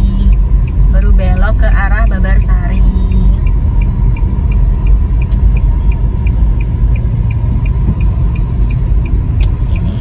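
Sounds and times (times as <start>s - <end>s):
engine and tyre rumble: 0.0s - 10.0s
faint even ticking: 0.0s - 10.0s.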